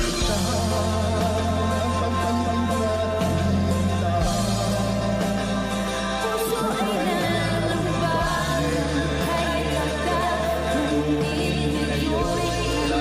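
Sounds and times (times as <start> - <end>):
pop ballad singing voice: 0.0 - 13.0
sustained bass notes: 0.0 - 13.0.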